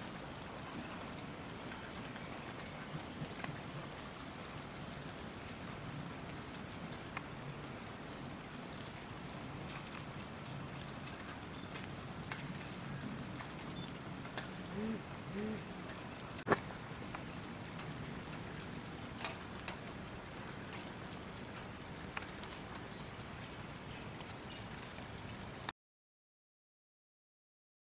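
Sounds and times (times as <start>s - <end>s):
light rain: 0.0s - 25.7s.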